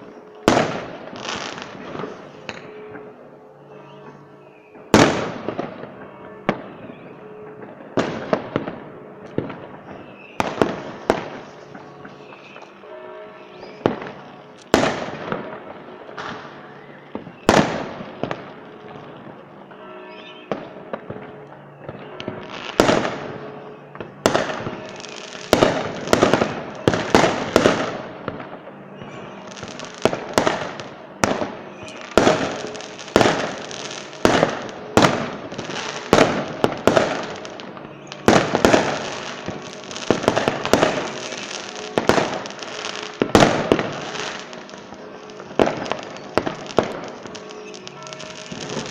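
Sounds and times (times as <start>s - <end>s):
fireworks bursting with bangs: 0.0s - 48.9s
fireworks crackling: 0.0s - 48.9s.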